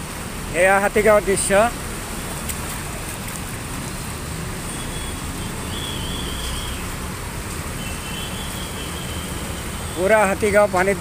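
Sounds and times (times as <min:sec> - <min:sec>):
vehicle engines: 0:00.0 - 0:11.0
water churning under wheels: 0:00.0 - 0:11.0.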